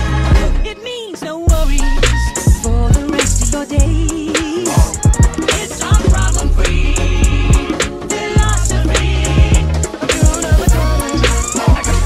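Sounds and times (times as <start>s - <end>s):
steady bass line: 0.0s - 0.7s, 1.5s - 12.0s
hip hop beat with punchy kick drum: 0.0s - 12.0s.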